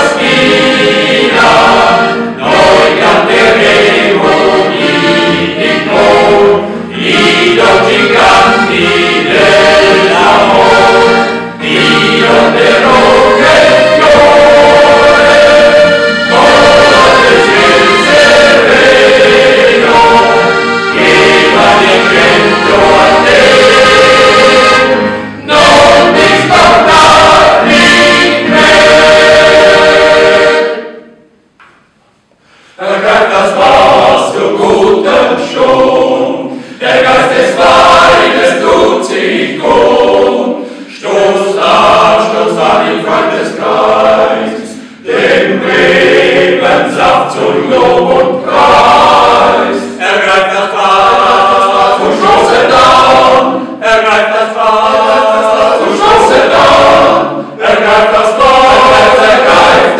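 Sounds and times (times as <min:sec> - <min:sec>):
men's choir singing: 0:00.0 - 0:31.3, 0:32.7 - 0:59.9.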